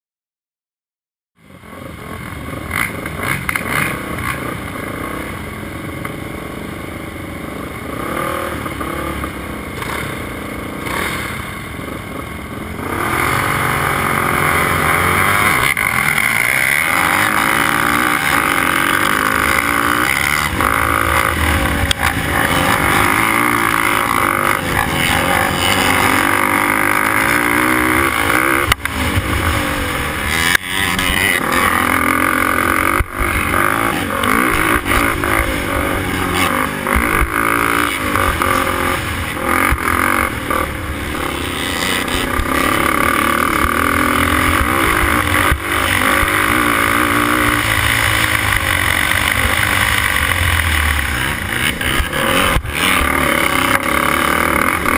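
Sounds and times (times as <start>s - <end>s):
quad engine at full throttle: 1.4s - 54.9s
quad engines revving: 1.5s - 54.9s.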